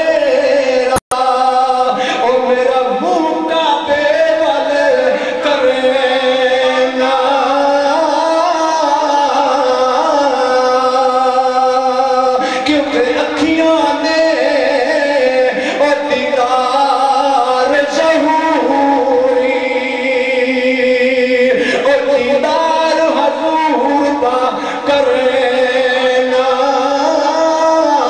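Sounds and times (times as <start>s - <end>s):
man chanting: 0.0s - 28.0s.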